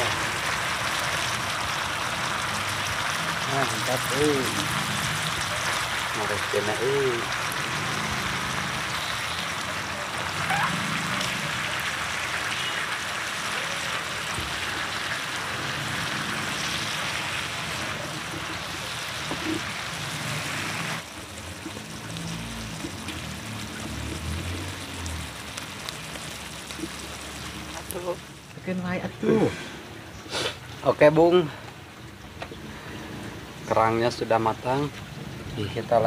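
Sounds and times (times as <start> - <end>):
food sizzling in a wok: 0.0 - 29.2.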